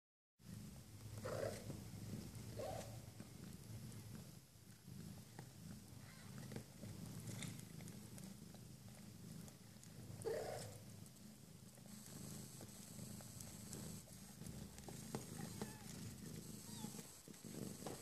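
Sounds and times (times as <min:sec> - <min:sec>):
cat purring softly: 0:00.4 - 0:18.0.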